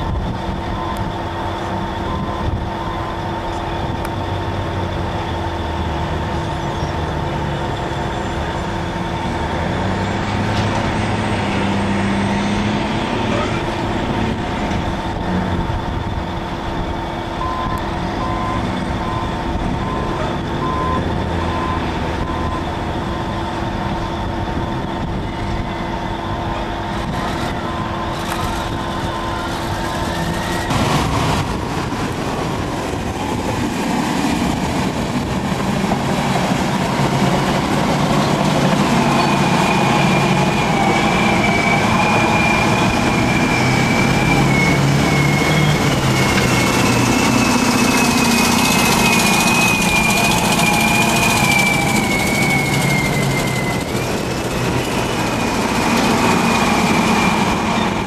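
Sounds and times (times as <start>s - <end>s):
diesel engine under load: 0.0s - 58.0s
mechanical whine: 0.0s - 58.0s.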